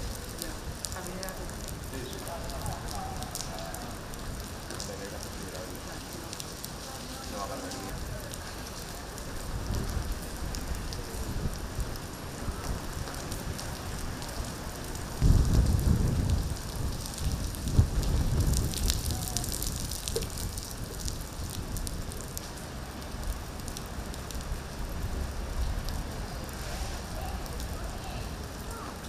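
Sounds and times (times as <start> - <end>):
rain on hard surfaces: 0.0 - 29.0.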